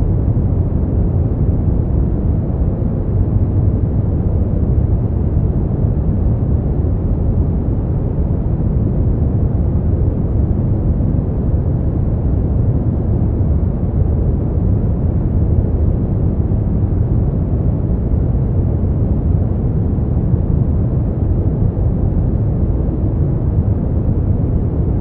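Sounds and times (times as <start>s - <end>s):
deep rumbling steady noise: 0.0s - 25.0s.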